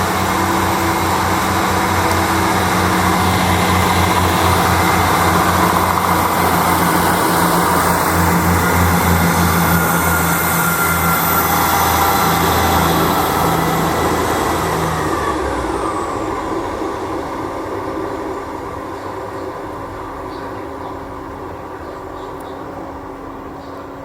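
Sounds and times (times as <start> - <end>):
diesel train engine running: 0.0 - 24.0
high engine whine: 0.0 - 24.0.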